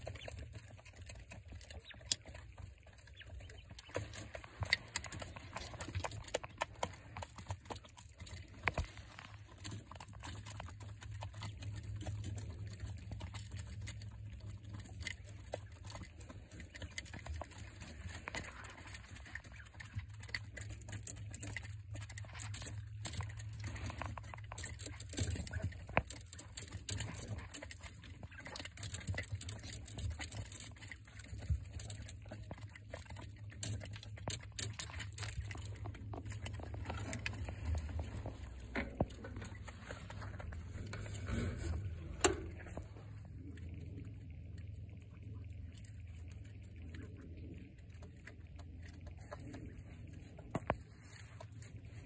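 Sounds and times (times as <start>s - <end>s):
birds pecking taps and clicks: 0.0s - 52.0s
low steady hum: 0.0s - 52.0s.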